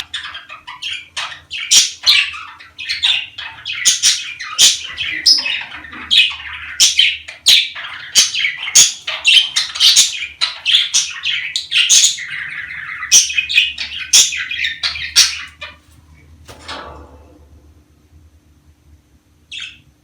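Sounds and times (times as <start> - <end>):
budgerigars chattering and warbling: 0.0 - 15.9, 19.5 - 19.8.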